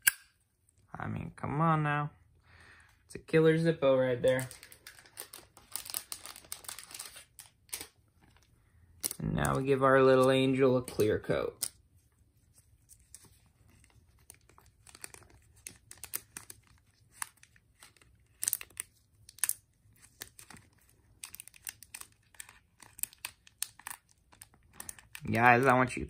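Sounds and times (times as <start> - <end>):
plastic sleeve crinkling: 4.2 - 26.0.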